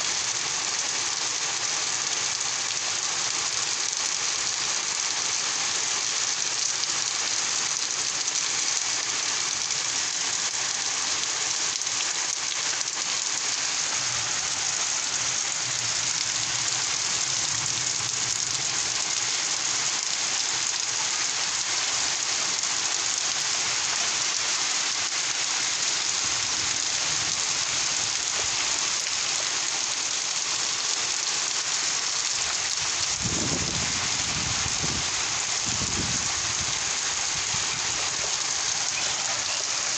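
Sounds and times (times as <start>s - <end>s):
rain pouring: 0.0s - 39.9s.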